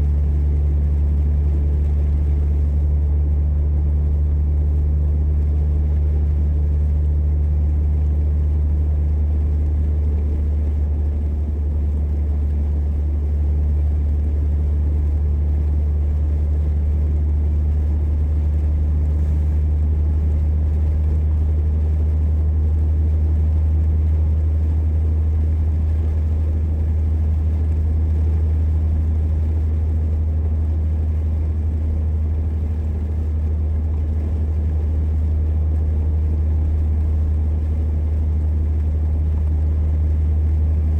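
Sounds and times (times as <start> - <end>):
car interior engine and road noise: 0.0 - 40.9.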